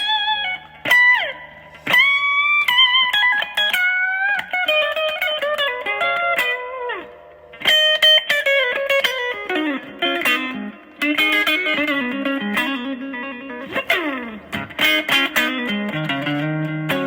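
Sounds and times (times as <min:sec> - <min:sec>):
electric guitar lead phrases: 0:00.0 - 0:17.0.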